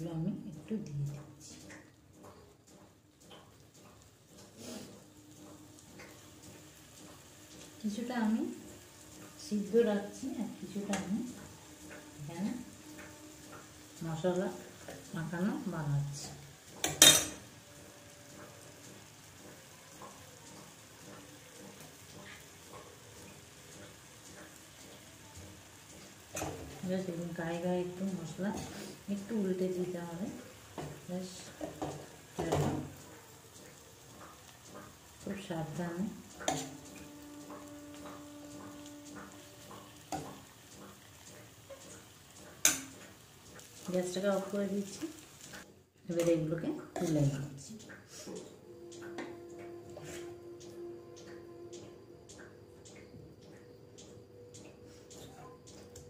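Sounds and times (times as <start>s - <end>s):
sauce sizzling in a pan: 0.0s - 56.0s
small crackles: 1.0s - 48.6s.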